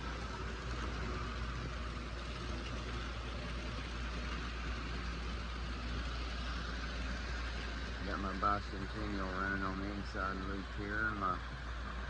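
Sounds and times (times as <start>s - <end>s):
low hum: 0.0s - 12.0s
model train motors whirring: 0.0s - 12.0s
wheels rumbling on rail: 0.0s - 12.0s.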